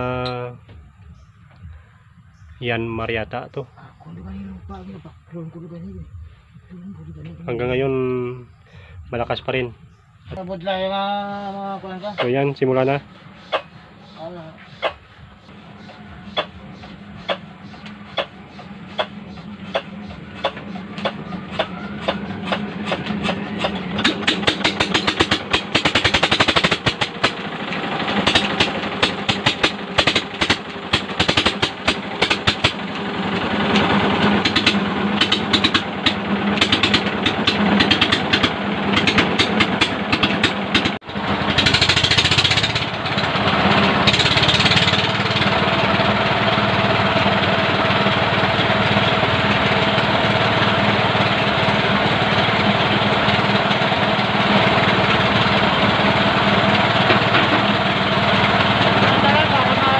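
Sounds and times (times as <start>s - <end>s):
diesel engine starting up: 4.0s - 59.9s.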